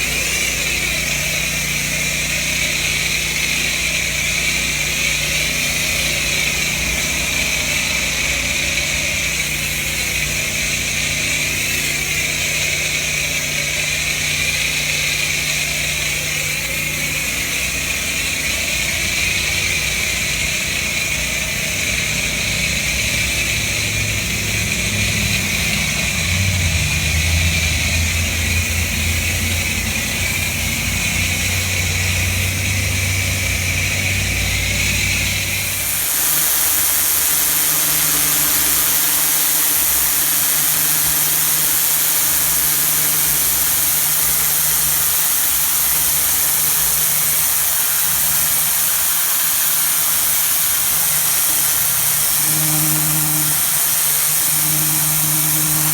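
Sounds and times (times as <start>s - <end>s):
pressure washer engine running: 0.0s - 55.9s
water jet hissing on concrete: 0.0s - 55.9s.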